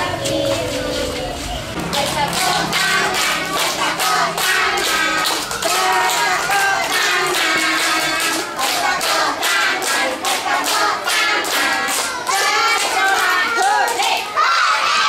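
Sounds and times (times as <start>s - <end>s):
hands clapping in rhythm: 0.0s - 14.4s
children and adult singing: 0.0s - 15.0s.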